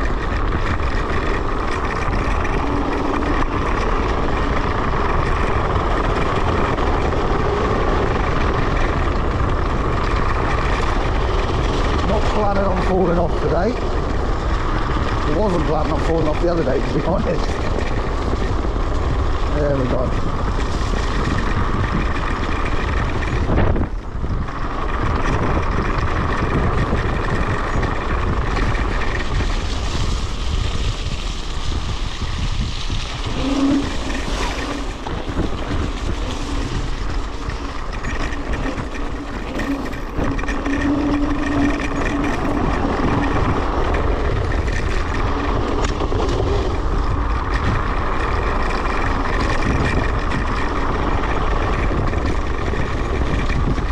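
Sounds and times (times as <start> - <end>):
tyre rumble: 0.0 - 53.9
wind buffeting microphone: 0.0 - 53.9.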